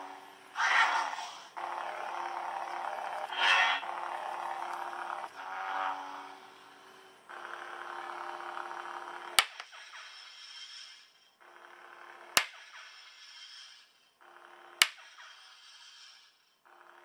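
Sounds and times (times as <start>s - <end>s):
lightsaber electronic hum: 0.0s - 17.0s.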